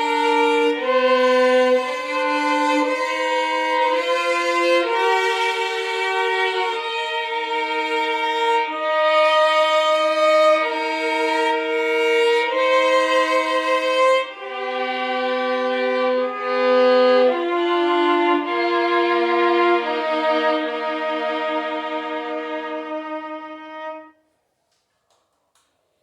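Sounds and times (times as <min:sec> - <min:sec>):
violins playing a slow hymn: 0:00.0 - 0:24.2.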